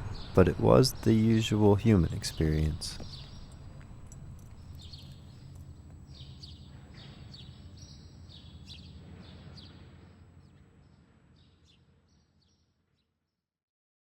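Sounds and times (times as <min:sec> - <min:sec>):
low outdoor background noise: 0:00.0 - 0:13.0
small birds chirping: 0:00.0 - 0:13.2.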